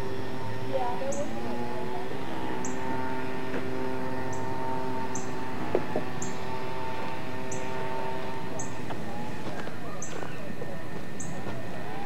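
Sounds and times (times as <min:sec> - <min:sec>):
hum of held tones: 0:00.0 - 0:12.0.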